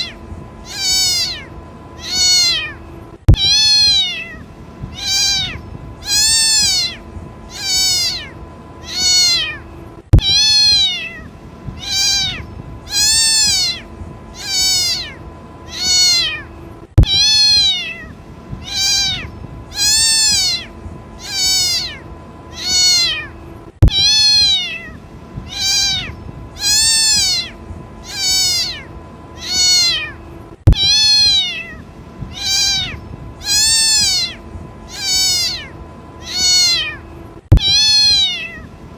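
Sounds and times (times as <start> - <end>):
kitten meowing: 0.0 - 38.7.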